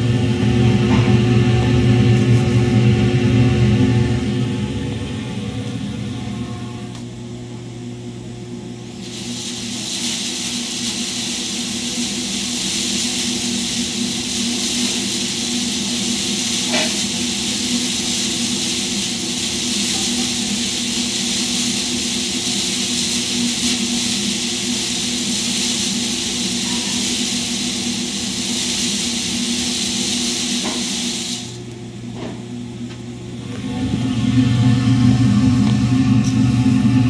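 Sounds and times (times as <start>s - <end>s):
blower air rushing: 0.0s - 6.9s, 8.9s - 31.7s, 33.3s - 37.0s.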